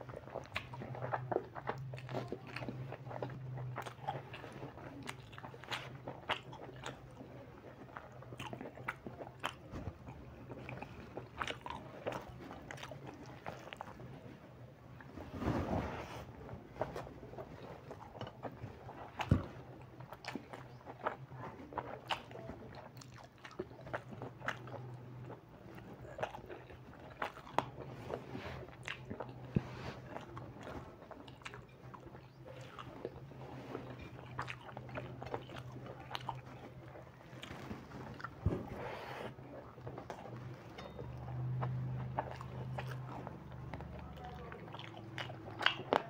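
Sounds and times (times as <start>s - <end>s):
chewing and wet mouth noises: 0.0s - 15.2s, 16.4s - 46.0s.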